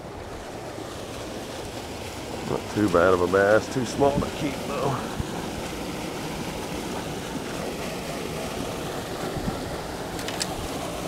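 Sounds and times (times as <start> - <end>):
water rushing through spillway: 0.0 - 11.0.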